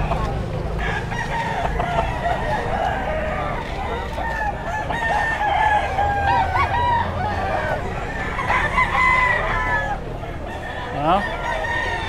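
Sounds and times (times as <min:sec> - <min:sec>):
roosters crowing: 0:00.0 - 0:12.0.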